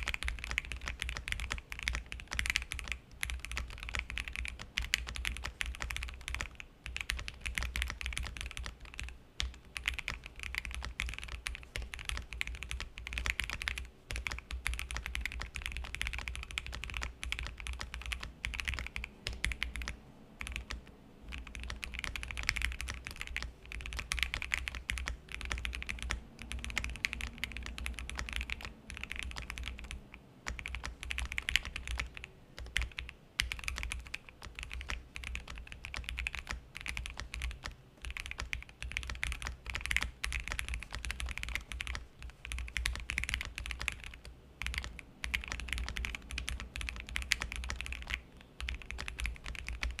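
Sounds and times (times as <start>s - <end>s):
mechanical keyboard typing: 0.0s - 50.0s.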